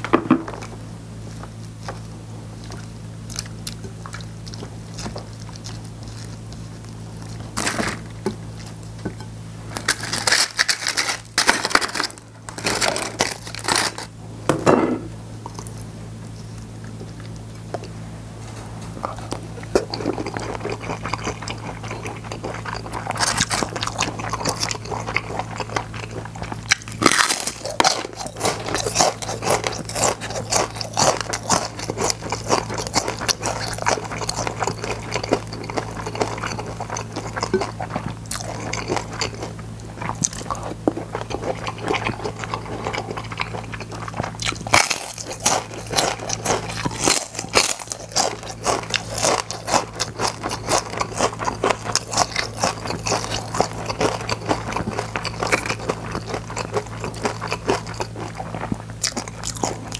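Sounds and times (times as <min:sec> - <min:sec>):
crunching crispy seaweed chips: 0:01.3 - 0:08.9, 0:09.6 - 0:14.2, 0:15.5 - 0:59.9.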